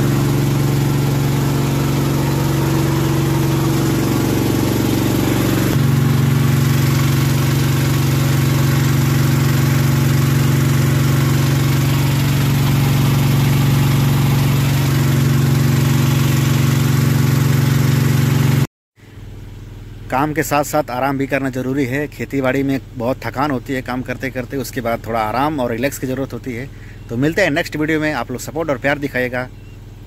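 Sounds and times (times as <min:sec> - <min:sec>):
water pump engine humming: 0:00.0 - 0:30.0.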